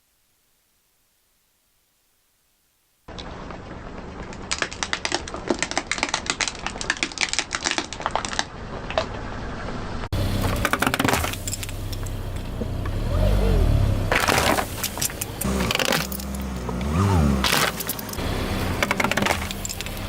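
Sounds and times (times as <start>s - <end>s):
objects crunching under car tyre: 3.1s - 9.6s, 10.2s - 20.0s.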